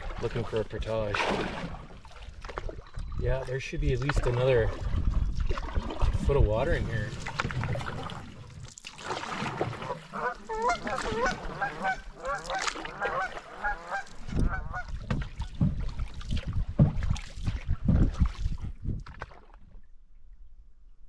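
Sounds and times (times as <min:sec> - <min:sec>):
canoe paddle in water: 0:00.0 - 0:20.9.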